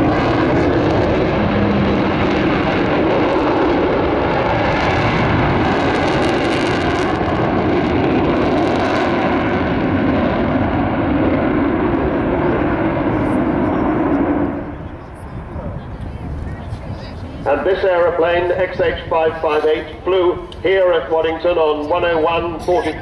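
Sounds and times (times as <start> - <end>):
jet bomber flying past: 0.0 - 23.0.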